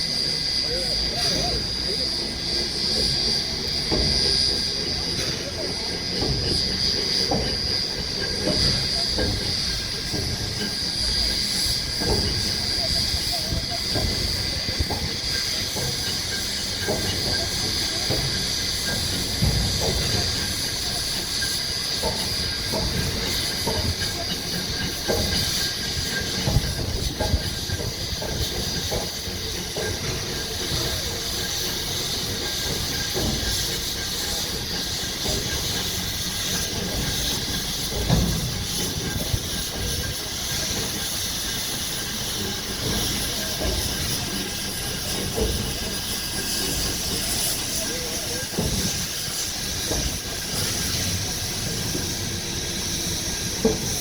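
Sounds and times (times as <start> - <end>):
steam locomotive hissing: 0.0 - 54.0
metal clanks and knocks: 5.1 - 54.0.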